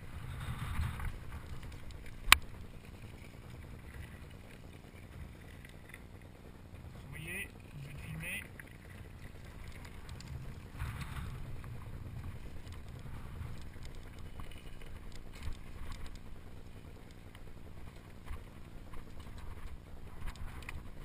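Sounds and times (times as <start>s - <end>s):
wind and tyre rumble: 0.0s - 21.0s.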